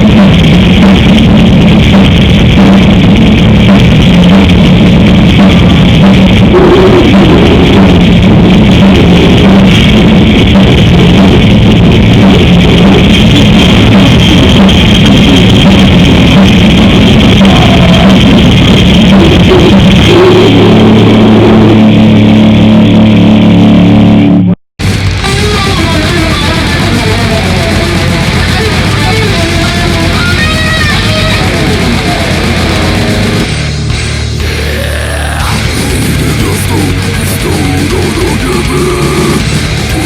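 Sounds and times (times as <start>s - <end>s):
fast drumming: 0.0s - 21.9s, 24.8s - 40.0s
metal band playing live: 0.0s - 24.2s, 24.8s - 40.0s
distorted electric guitars: 0.0s - 40.0s.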